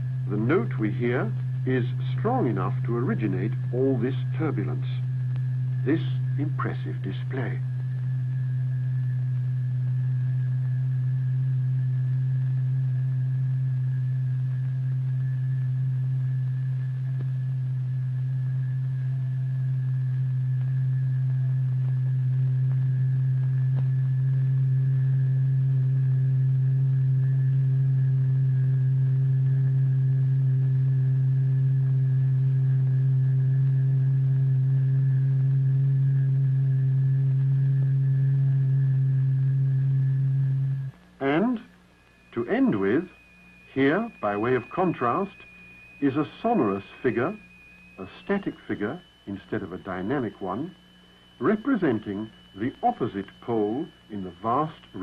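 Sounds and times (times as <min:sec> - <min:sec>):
steady low tone: 0:00.0 - 0:55.0.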